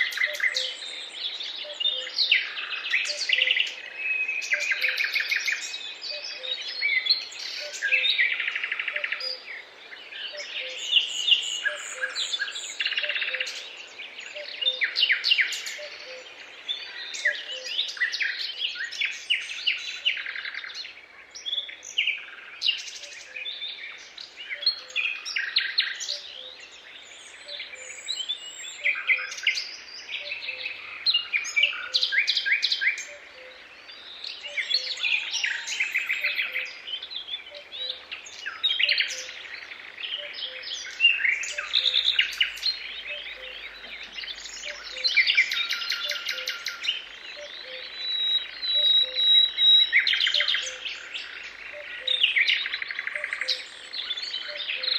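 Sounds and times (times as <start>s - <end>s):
songbirds singing and chirping: 0.0s - 54.9s.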